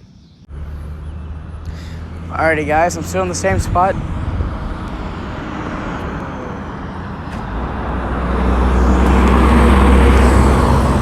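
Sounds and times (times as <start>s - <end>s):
road vehicle passing: 0.5s - 11.0s.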